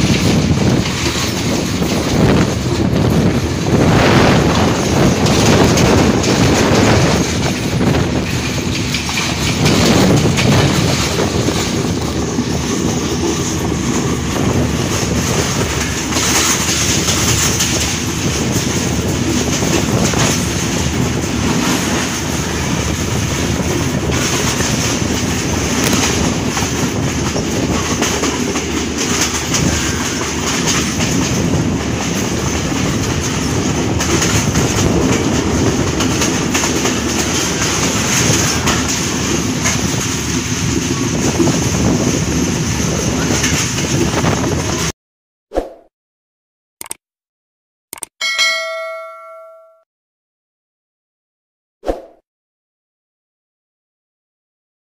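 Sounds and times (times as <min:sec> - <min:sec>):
train wheels on rails: 0:00.0 - 0:44.9.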